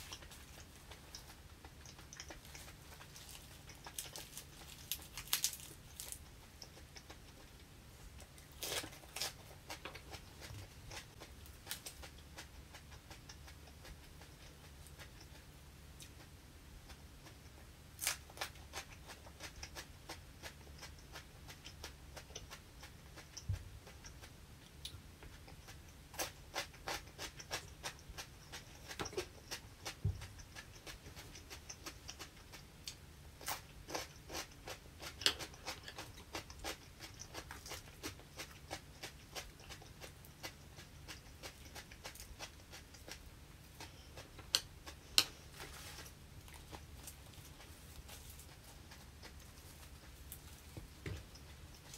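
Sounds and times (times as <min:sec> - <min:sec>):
crunchy chewing: 0:00.0 - 0:51.9.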